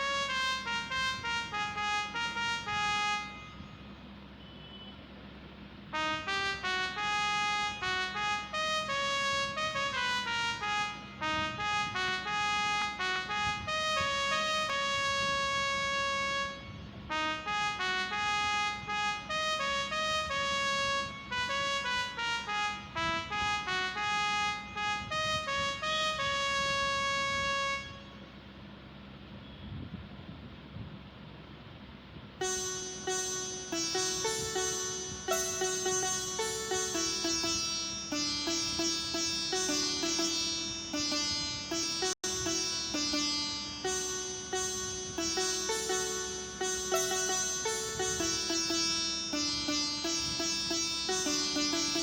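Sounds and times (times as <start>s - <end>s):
brassy phone ringtone tune: 0.0s - 3.7s, 6.0s - 28.2s, 32.4s - 52.0s.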